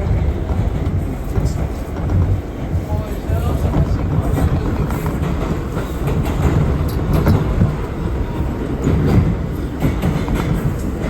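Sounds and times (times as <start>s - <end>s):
faint rail clicks: 0.0s - 11.0s
subway car rumbling on track: 0.0s - 11.0s.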